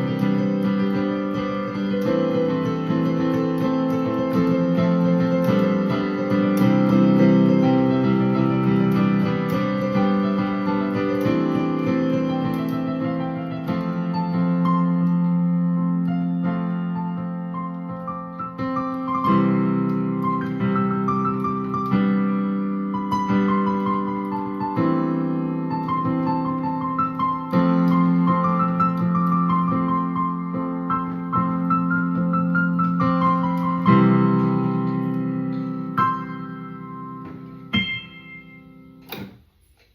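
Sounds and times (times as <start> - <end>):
piano playing sustained chords: 0.0 - 39.2.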